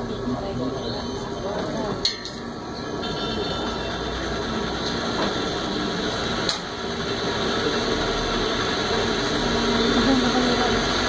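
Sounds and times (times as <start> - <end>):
rail car running on rails: 0.0 - 11.0.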